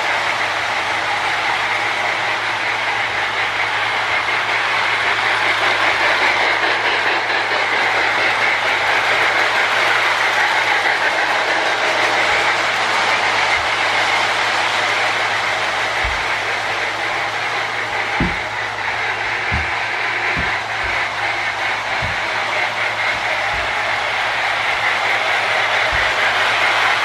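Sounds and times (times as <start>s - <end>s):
toy train chuffing: 0.0s - 27.0s
wheels clattering on rails: 0.0s - 27.0s.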